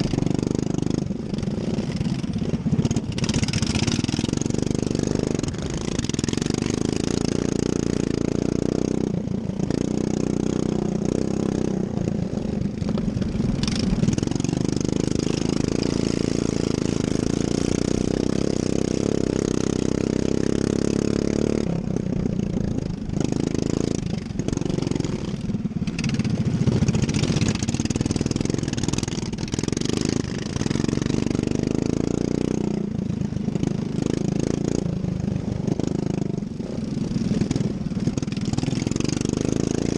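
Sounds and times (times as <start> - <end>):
racing lawn mower engine: 0.0 - 39.9.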